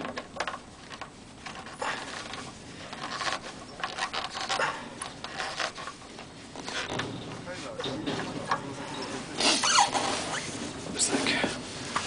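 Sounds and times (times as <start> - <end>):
cloth rustling and scraping: 0.0 - 12.0.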